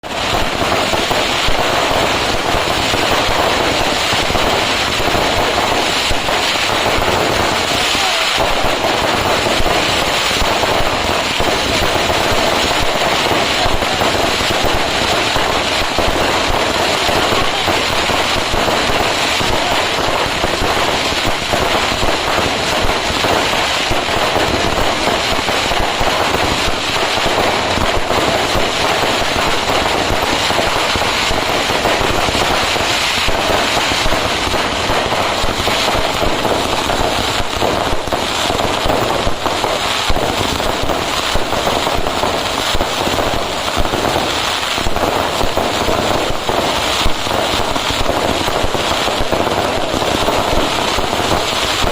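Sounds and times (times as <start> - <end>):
firecrackers crackling: 0.0 - 51.9.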